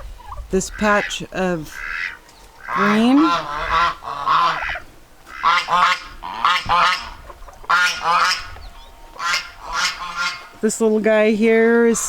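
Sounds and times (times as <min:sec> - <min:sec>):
poultry calling: 0:00.0 - 0:12.0.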